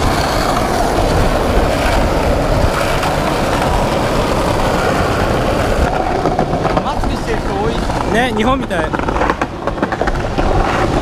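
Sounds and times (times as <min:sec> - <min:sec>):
skateboard wheels rolling on asphalt: 0:00.0 - 0:11.0.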